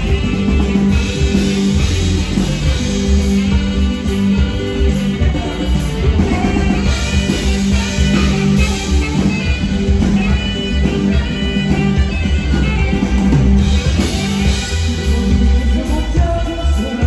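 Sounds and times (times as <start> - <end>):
bass: 0.0 - 17.0
drums: 0.0 - 17.0
sustained melody notes: 0.0 - 17.0.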